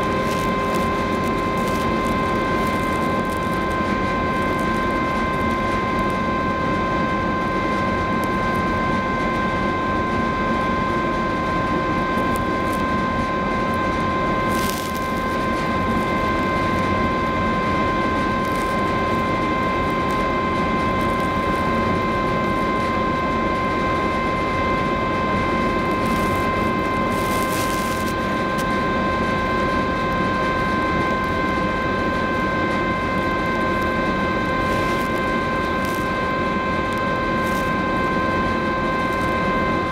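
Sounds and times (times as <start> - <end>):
steady whining tones: 0.0 - 39.9.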